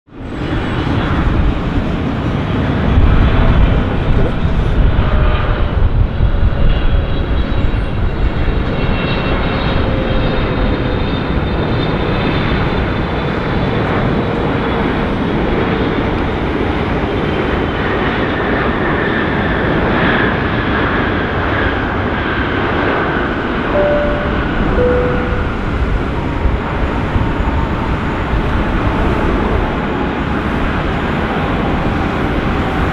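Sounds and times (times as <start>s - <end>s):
jet engine noise with whine: 0.1s - 32.9s.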